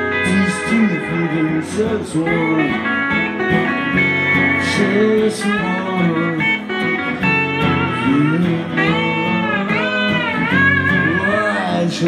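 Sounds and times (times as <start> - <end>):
man singing: 0.0 - 3.4, 4.5 - 12.0
strummed acoustic guitar: 0.0 - 12.0.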